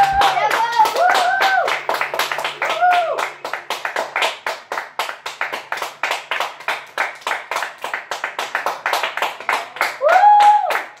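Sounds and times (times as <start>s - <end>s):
people clapping hands: 0.0s - 11.0s.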